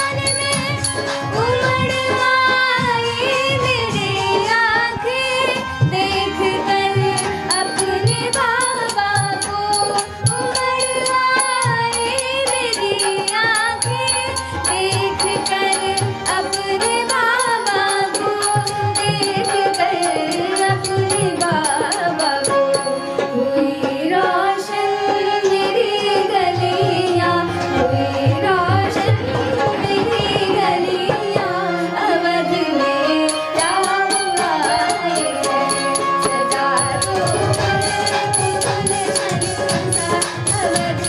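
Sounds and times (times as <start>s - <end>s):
ornamented sliding melody: 0.0s - 41.0s
tabla rhythm: 0.0s - 41.0s.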